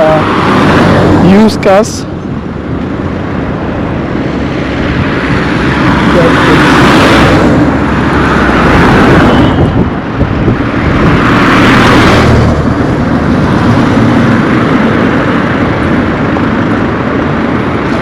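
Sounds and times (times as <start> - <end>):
highway traffic passing: 0.0 - 18.0.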